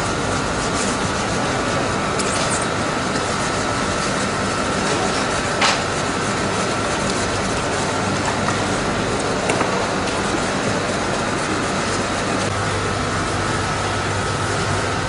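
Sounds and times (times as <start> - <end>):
surface being sanded: 0.0 - 12.5.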